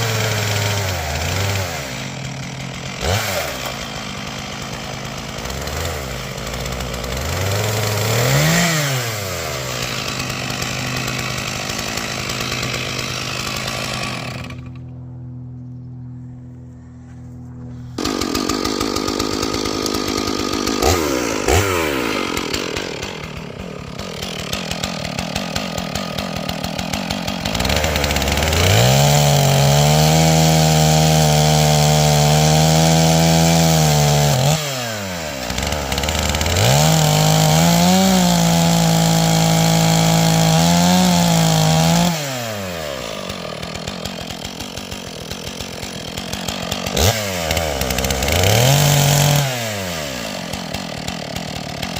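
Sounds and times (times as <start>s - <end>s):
chainsaw cutting at full throttle: 0.0s - 15.4s, 17.6s - 51.9s
chainsaw idling: 0.0s - 15.5s, 16.8s - 51.9s.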